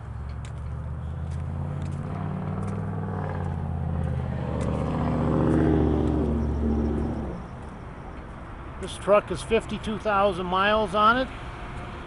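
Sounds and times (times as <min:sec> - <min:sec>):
vehicle engine idling: 0:00.0 - 0:10.1.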